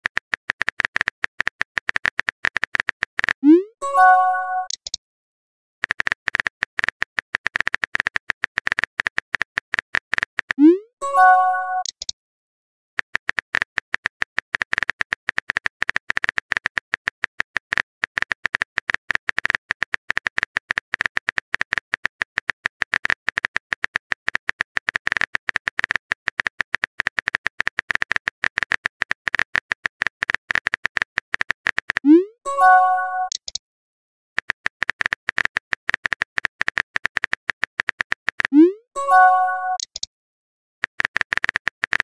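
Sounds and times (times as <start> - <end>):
keyboard typing clicks: 0.0 - 5.0, 5.8 - 12.2, 13.0 - 33.6, 34.4 - 40.1.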